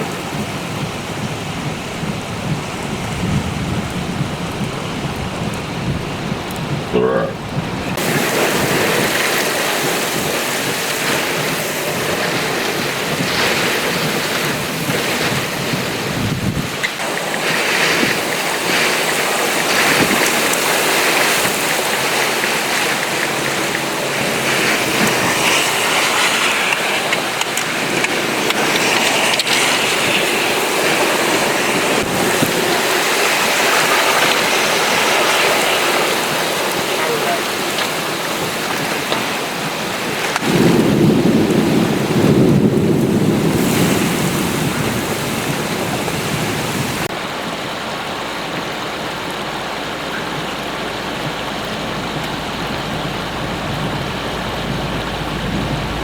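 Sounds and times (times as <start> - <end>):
gusting wind: 0.0 - 56.0
heavy rain: 0.0 - 56.0.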